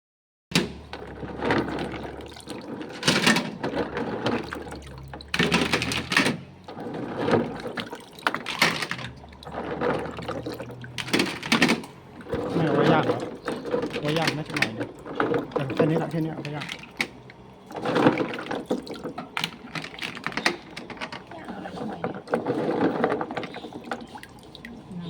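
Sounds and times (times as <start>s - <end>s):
water splashing and pouring: 0.8s - 25.0s.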